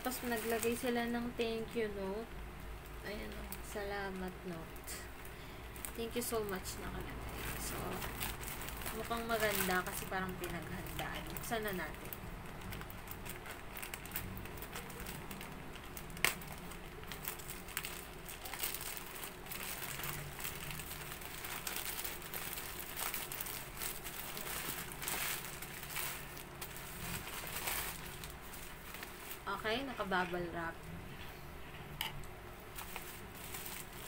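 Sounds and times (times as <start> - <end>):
plastic packaging crinkling: 0.0 - 30.6, 32.7 - 34.0.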